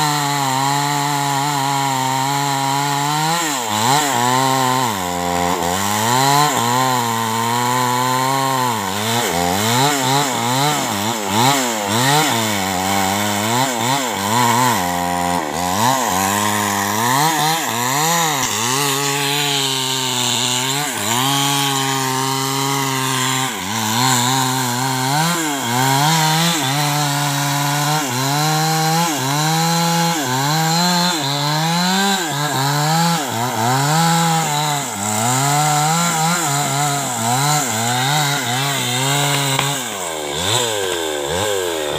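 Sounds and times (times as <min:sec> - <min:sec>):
chainsaw cutting into tree trunk: 0:00.0 - 0:41.9.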